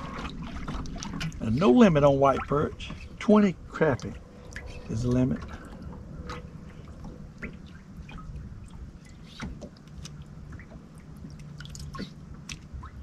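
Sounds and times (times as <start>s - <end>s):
low steady hum: 0.0s - 13.0s
water dripping and splashing: 0.0s - 13.0s.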